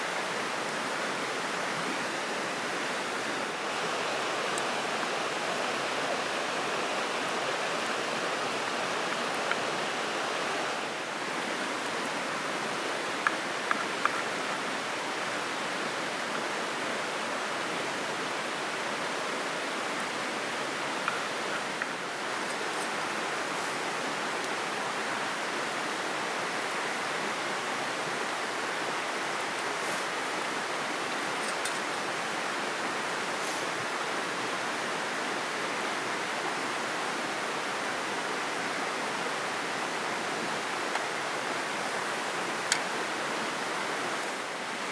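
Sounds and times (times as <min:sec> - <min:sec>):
river flowing: 0:00.0 - 0:44.9.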